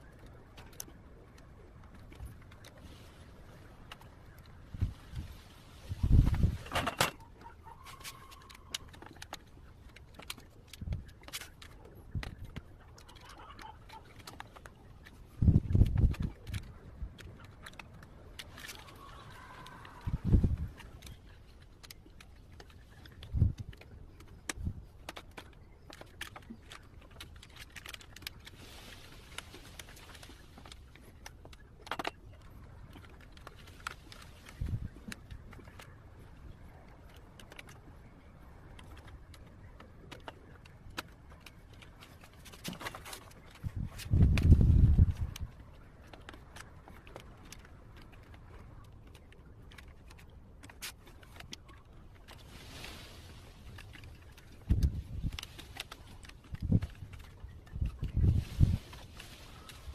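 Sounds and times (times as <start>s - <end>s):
wire clicking and scraping: 0.0s - 59.9s.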